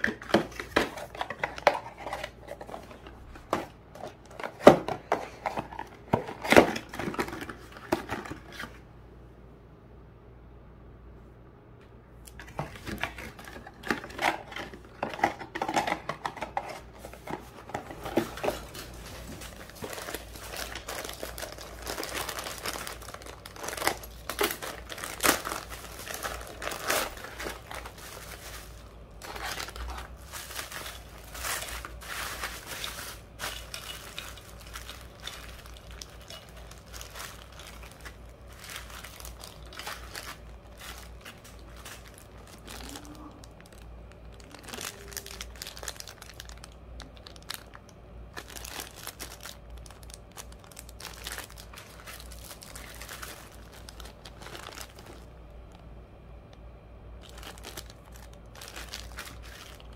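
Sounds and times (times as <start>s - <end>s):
plastic and bubble wrap crinkling: 0.0s - 8.8s, 12.3s - 59.9s.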